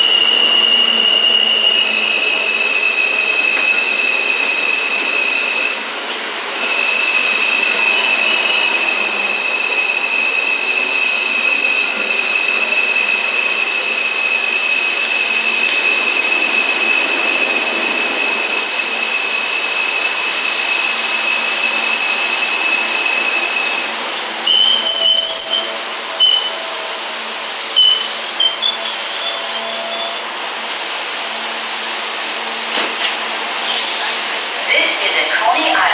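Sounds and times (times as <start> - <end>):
train wheels squealing: 0.0 - 5.8, 6.6 - 27.0, 27.7 - 30.3, 33.5 - 34.6
subway train rumble: 0.0 - 35.9
train coming to rest: 0.0 - 35.9.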